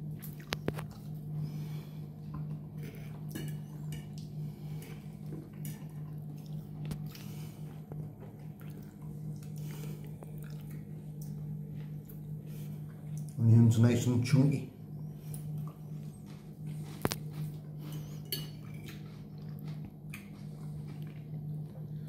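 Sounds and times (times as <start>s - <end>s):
steady low hum: 0.0s - 22.0s
chewing: 0.1s - 1.3s, 2.2s - 13.4s, 15.0s - 22.0s.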